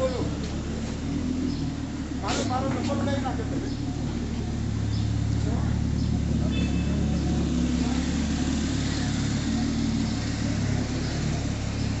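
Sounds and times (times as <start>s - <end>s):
car engine running: 0.0s - 12.0s
street noise: 0.0s - 12.0s.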